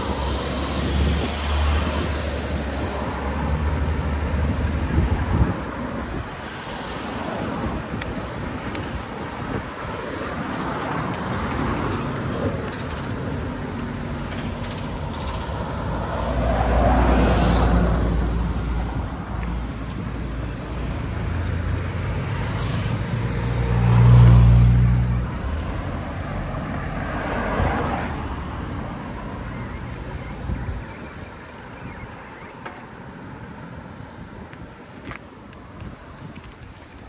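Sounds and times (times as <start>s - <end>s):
cars passing on road: 0.0s - 37.0s.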